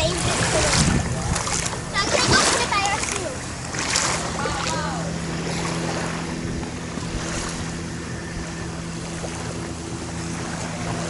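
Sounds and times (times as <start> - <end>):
boat engine humming: 0.0 - 11.0
waves washing: 0.0 - 11.0
wind: 0.0 - 11.0.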